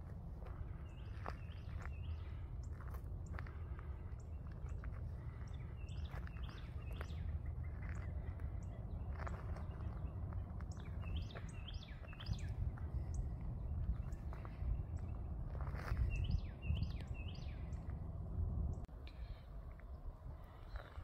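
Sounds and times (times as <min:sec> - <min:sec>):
low rumble: 0:00.0 - 0:21.0
birds chirping: 0:00.1 - 0:21.0.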